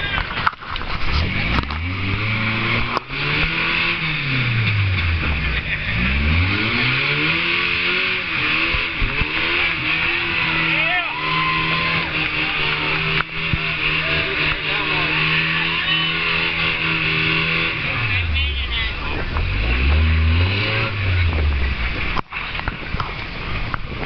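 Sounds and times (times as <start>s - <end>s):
buggy engine revving: 0.0s - 24.0s.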